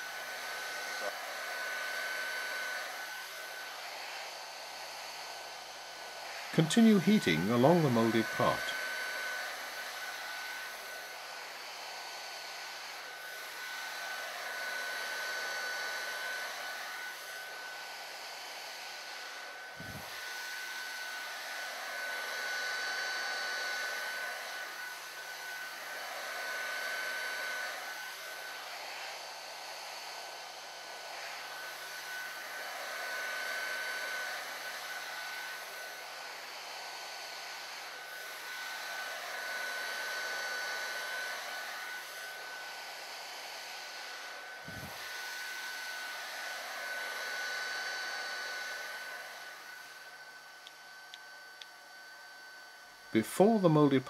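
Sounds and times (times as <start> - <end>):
heat gun whining: 0.0 - 54.0.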